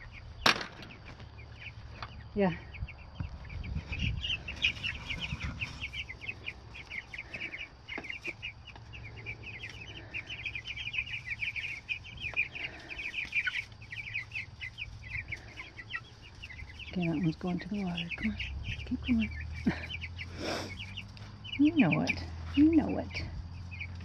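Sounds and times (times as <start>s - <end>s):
chicks cheeping: 0.0s - 24.0s.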